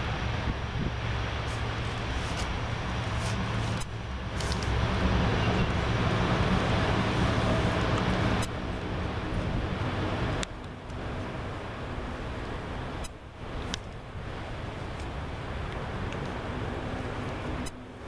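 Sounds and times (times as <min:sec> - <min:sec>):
heavy rain hiss: 0:00.0 - 0:18.0
propeller engines humming: 0:00.0 - 0:18.0.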